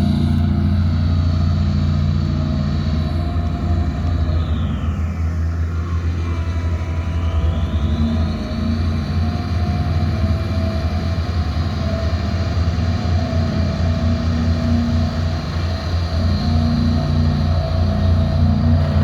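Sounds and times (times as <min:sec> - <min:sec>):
diesel engine humming: 0:00.0 - 0:19.0
high-pitched whine: 0:00.0 - 0:19.0.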